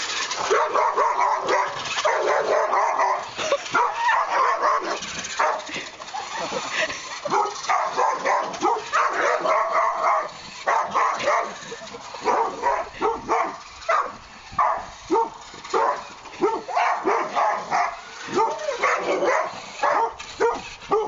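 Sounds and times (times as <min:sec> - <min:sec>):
dog barking: 0:00.5 - 0:05.7, 0:07.3 - 0:11.6, 0:12.2 - 0:21.0.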